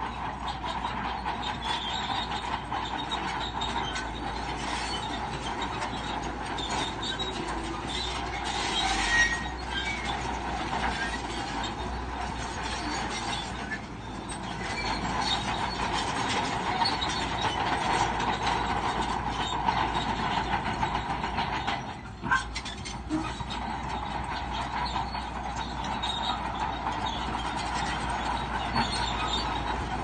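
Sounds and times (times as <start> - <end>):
diesel engine running: 0.0 - 30.0
steel tracks clanking and squealing: 0.0 - 30.0.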